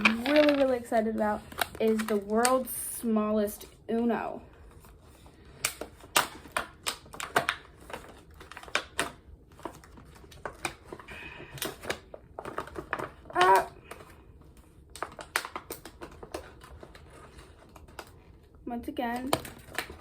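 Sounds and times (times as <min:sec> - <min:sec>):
packaging clicking and crinkling: 0:00.0 - 0:02.8, 0:04.5 - 0:20.0.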